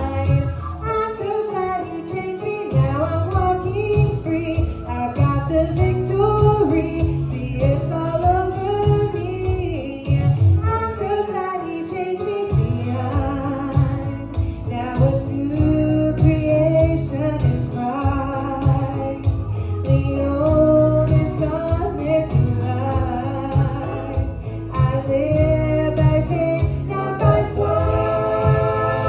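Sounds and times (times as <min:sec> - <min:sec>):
bass and backing music: 0:00.0 - 0:29.0
woman singing gospel: 0:00.0 - 0:29.0.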